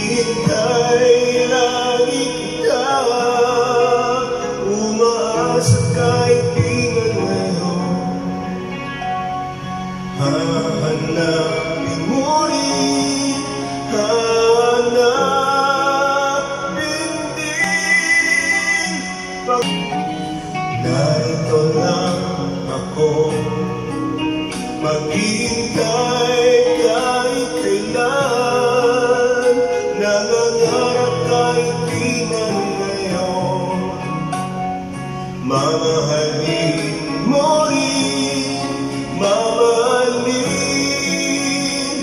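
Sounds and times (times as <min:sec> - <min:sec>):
backing music: 0:00.0 - 0:42.0
man singing into a microphone: 0:00.0 - 0:42.0.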